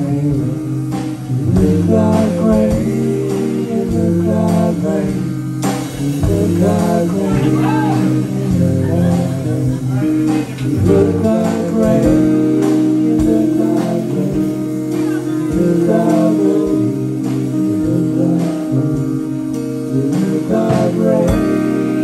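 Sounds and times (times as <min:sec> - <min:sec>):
drum kit beat: 0:00.0 - 0:22.0
electric guitar blues: 0:00.0 - 0:22.0.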